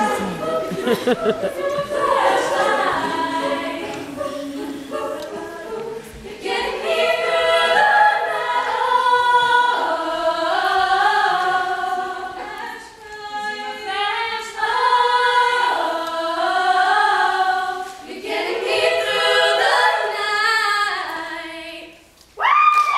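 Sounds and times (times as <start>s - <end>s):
girls singing a cappella: 0.0s - 22.4s.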